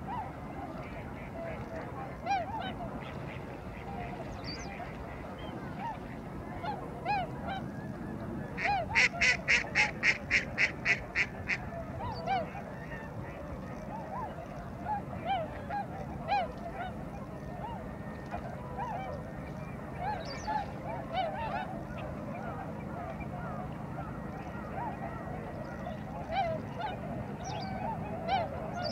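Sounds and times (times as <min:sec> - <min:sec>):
waterbirds calling: 0:00.0 - 0:28.9.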